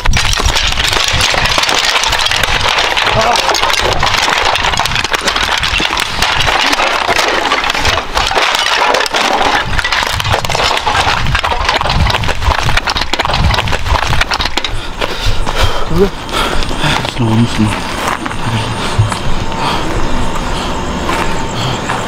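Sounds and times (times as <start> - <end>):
footsteps crunching over rubble: 0.0 - 20.0.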